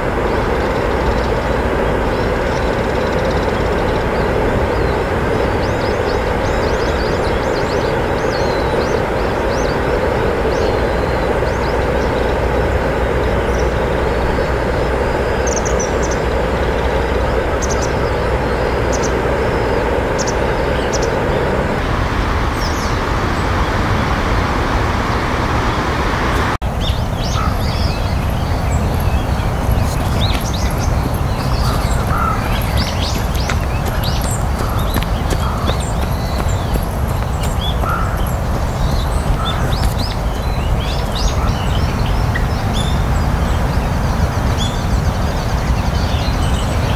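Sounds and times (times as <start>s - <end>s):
small birds chirping: 0.0s - 21.9s, 26.6s - 46.9s
flowing river water: 0.0s - 46.9s.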